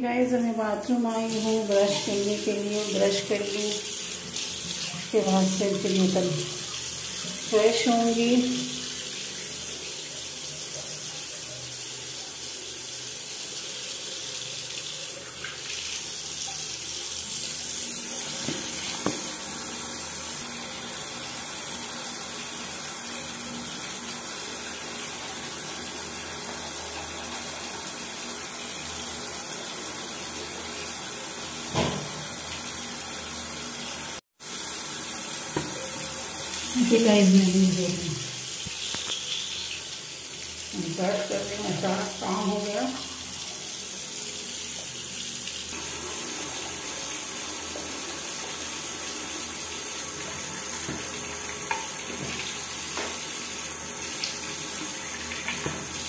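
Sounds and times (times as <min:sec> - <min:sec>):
water running from tap: 0:00.1 - 0:56.0.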